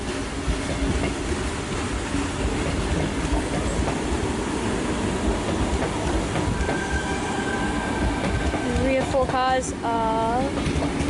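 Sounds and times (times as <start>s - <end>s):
electric train wheels rumbling: 0.0s - 11.0s.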